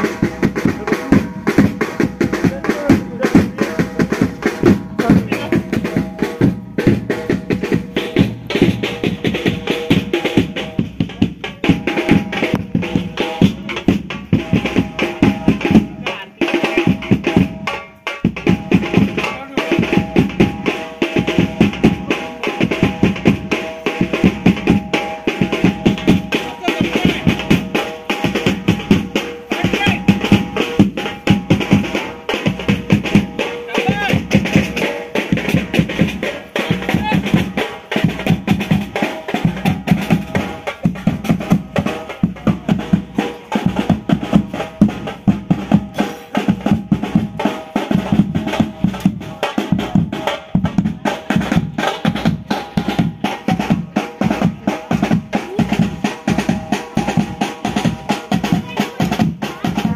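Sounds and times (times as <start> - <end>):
fast drumming: 0.0 - 59.9.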